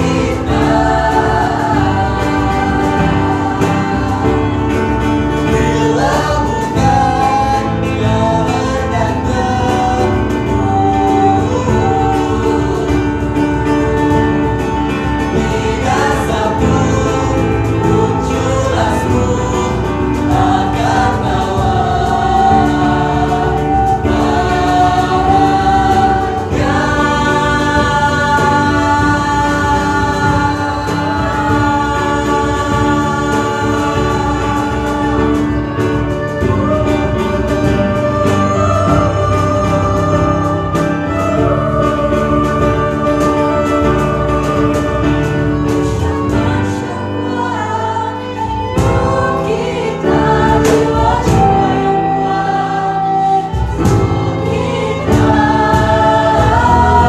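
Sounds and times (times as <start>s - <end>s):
guitar: 0.0s - 57.0s
violin: 0.0s - 57.0s
vocal group singing in harmony: 0.0s - 57.0s.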